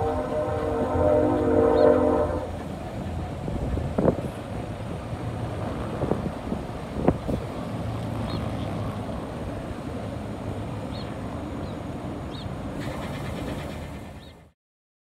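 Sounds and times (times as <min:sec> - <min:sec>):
road traffic rumble: 0:00.0 - 0:14.5
distant freight train: 0:00.0 - 0:14.6.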